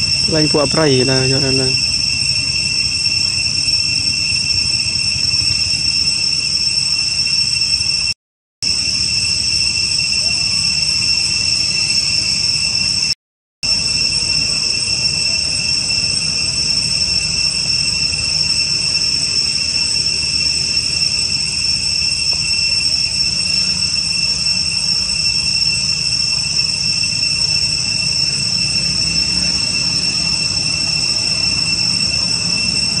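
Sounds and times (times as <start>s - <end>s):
insect chorus droning: 0.0s - 33.0s.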